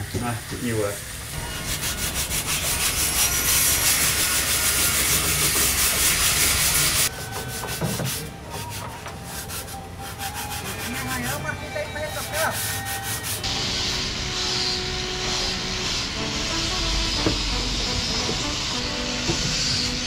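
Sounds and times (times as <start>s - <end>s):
wood being sanded: 1.3s - 20.0s.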